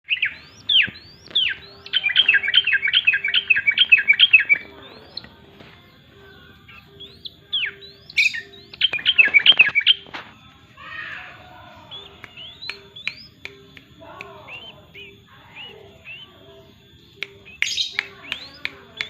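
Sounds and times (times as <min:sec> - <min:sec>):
bird whistled notes: 0:00.0 - 0:05.4, 0:06.3 - 0:10.2, 0:11.9 - 0:19.0
bird singing falling notes: 0:00.0 - 0:19.0.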